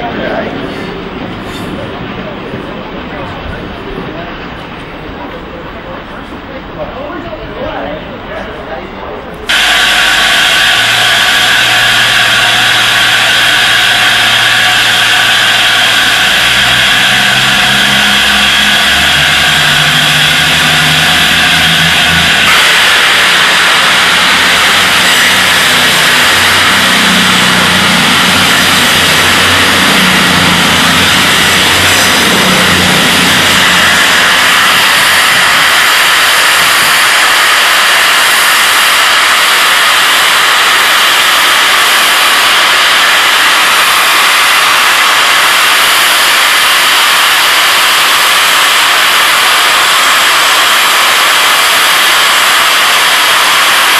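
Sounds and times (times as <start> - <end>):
steam roaring from safety valves: 0.0 - 53.9
train diesel engines humming: 0.0 - 53.9.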